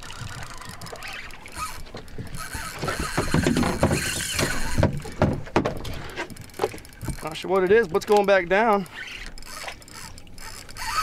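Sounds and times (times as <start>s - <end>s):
knocks and clicks on boat: 0.0s - 11.0s
water lapping against boat hull: 0.0s - 11.0s.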